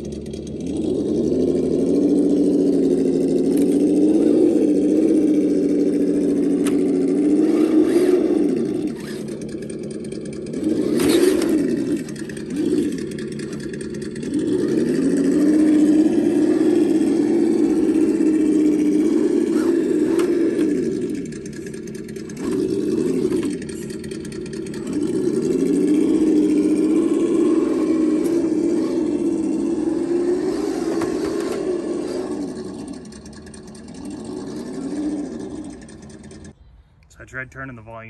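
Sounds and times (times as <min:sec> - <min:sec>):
simulated engine sound from speaker: 0:00.0 - 0:38.0.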